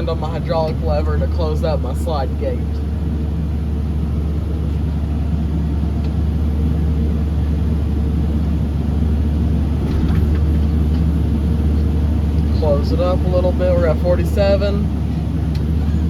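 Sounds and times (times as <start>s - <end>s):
faint whine: 0.0s - 16.0s
tractor engine droning: 0.0s - 16.0s.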